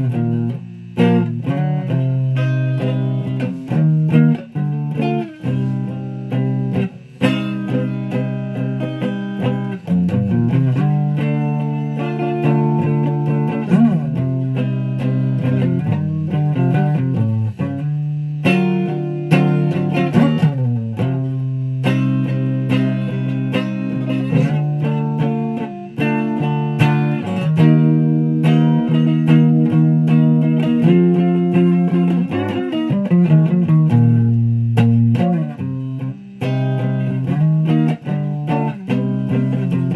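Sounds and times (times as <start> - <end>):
guitar playing: 0.0 - 39.9.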